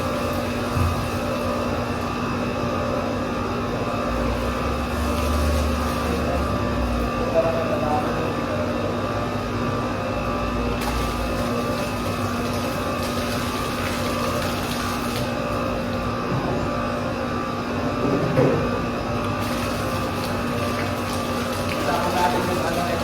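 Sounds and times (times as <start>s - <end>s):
steady machinery hum: 0.0s - 23.0s.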